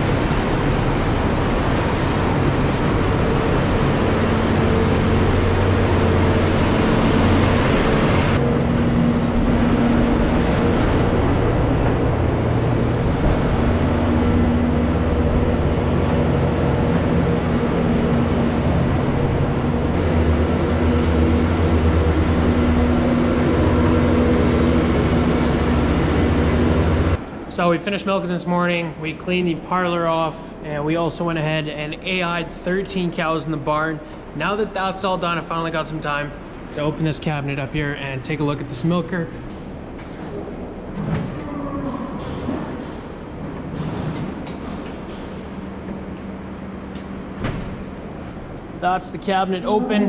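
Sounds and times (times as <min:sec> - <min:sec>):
loader engine running: 0:00.0 - 0:28.0, 0:29.1 - 0:50.0.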